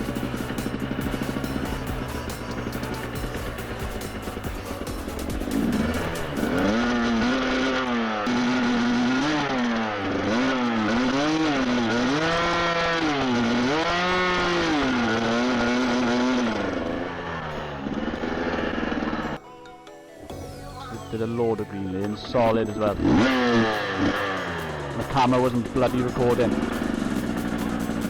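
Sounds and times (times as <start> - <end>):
dirt bike engine revving: 0.0 - 19.4, 22.0 - 28.0.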